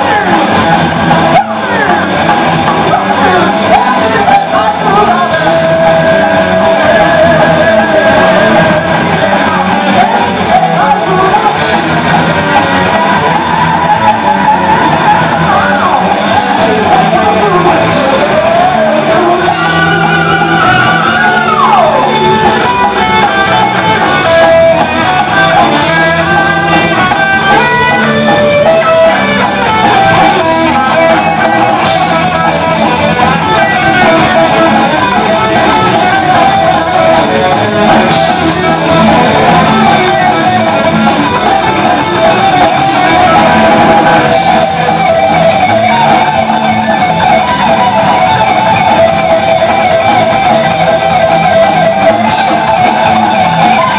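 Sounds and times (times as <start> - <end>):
heavy metal band playing: 0.0 - 53.9
lead guitar sliding down: 0.0 - 53.9.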